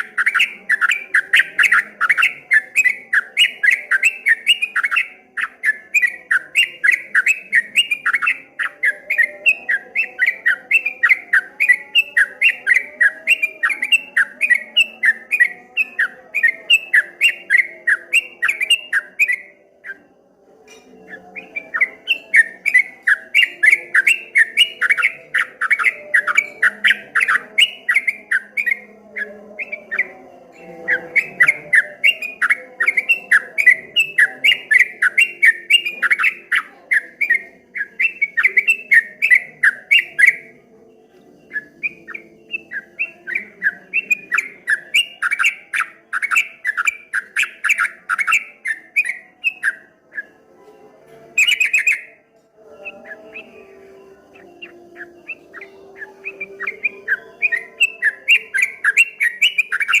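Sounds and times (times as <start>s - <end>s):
bulbul singing rolling song: 0.0s - 60.0s.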